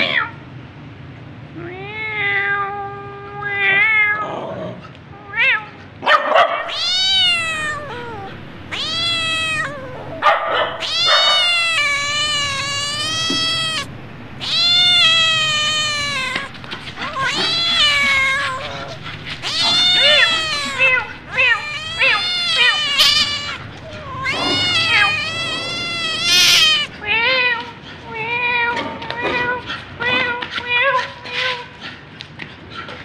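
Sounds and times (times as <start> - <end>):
cat yowling: 1.6 - 4.5, 5.2 - 31.8.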